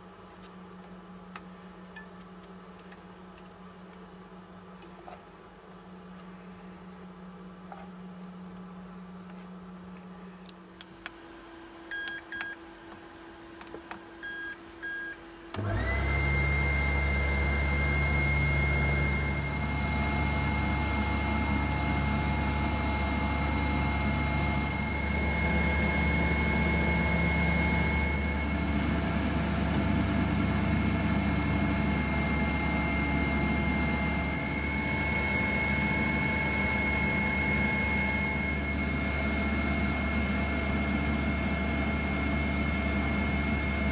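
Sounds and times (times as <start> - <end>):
air fryer fan humming and whining: 0.0 - 43.9.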